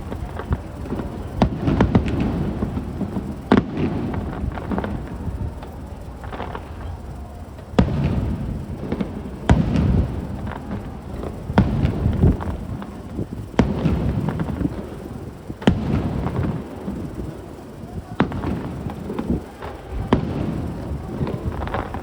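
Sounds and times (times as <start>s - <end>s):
fireworks booming: 0.0s - 22.0s
rumbling echo and crackle: 0.0s - 22.0s.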